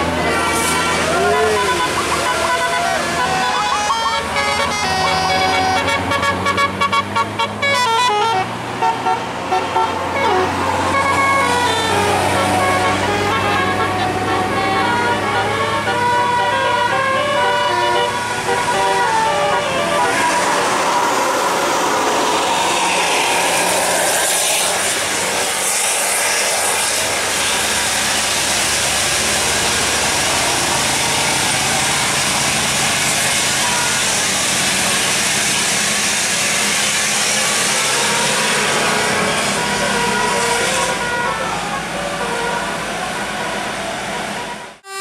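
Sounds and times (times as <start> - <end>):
bus engines: 0.0 - 45.0
multi-tone musical bus horn: 0.0 - 45.0
road noise: 0.0 - 45.0.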